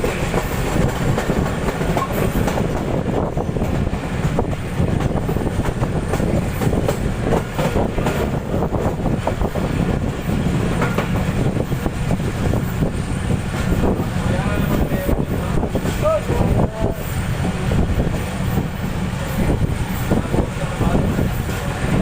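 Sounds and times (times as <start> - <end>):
train coaches rumbling: 0.0 - 22.0.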